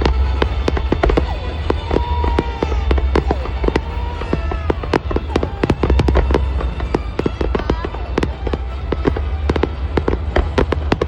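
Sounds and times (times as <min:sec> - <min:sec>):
fireworks bangs and crackles: 0:00.0 - 0:11.0
fireworks whistling: 0:00.0 - 0:11.0.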